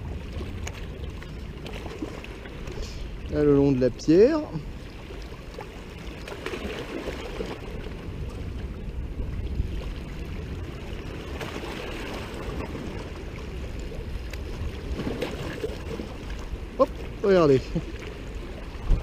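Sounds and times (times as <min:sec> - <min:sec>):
waves lapping against rocks: 0:00.0 - 0:19.0
wind buffeting microphone: 0:00.0 - 0:19.0.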